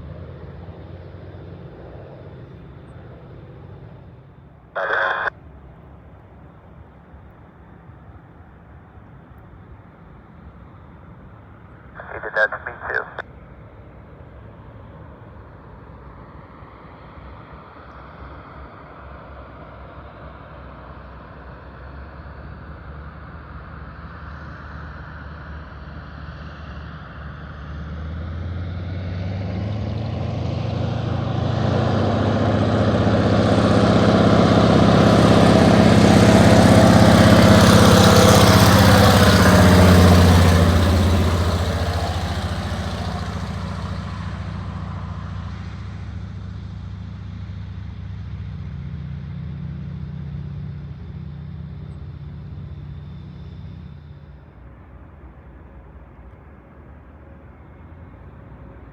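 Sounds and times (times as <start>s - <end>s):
floatplane engine and propeller: 0.0s - 58.9s.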